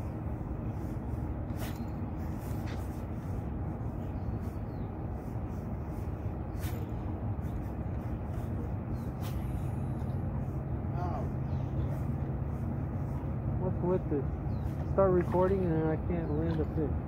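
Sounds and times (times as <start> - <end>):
steady low rushing noise: 0.0 - 17.0.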